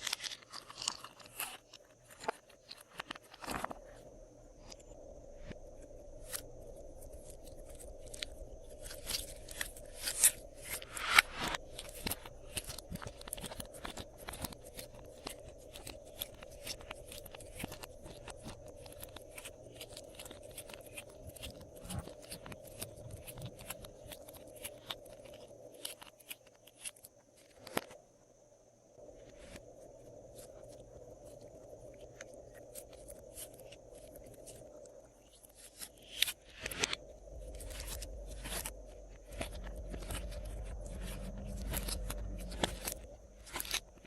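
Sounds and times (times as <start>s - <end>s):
faint hum: 0.0s - 44.0s.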